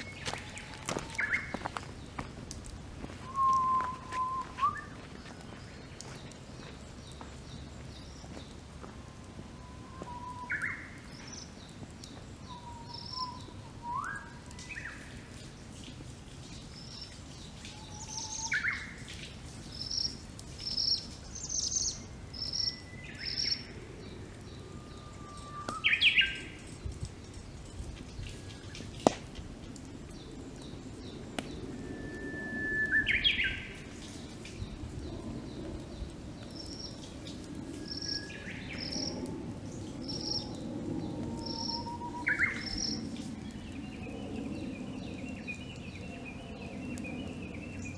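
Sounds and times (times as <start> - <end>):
campfire crack: 0.0 - 47.9
songbirds singing: 0.0 - 47.9.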